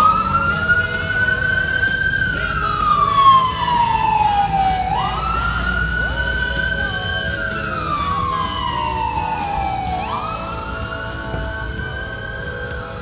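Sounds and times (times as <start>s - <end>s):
electronic siren wailing: 0.0s - 13.0s.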